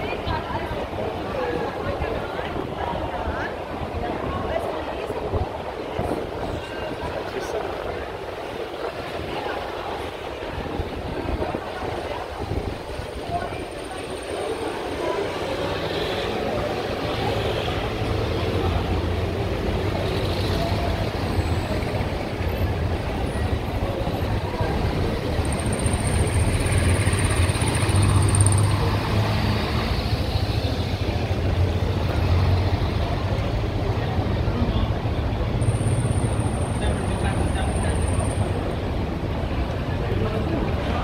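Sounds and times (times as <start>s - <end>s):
passing motor traffic: 0.0s - 41.0s.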